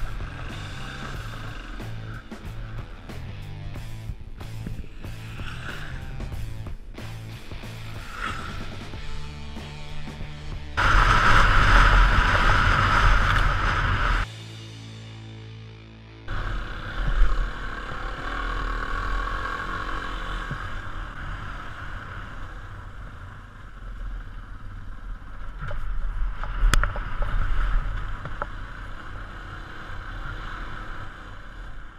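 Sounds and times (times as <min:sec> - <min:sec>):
motorcycle engine rumbling: 0:00.0 - 0:14.3, 0:16.3 - 0:31.9.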